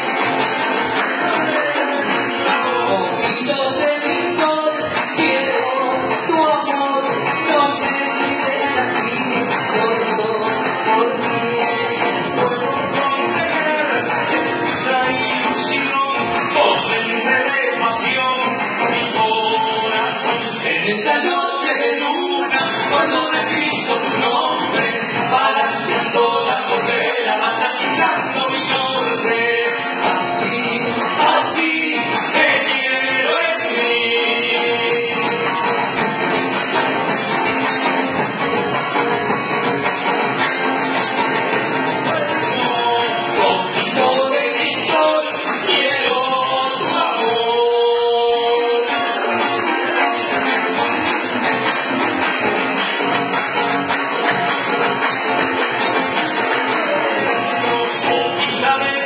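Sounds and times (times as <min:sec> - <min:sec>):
voices singing: 0:00.0 - 0:38.4, 0:39.6 - 0:59.0
acoustic guitar: 0:00.0 - 0:59.0
cajon strokes: 0:00.0 - 0:59.0
hand drum: 0:00.0 - 0:59.0.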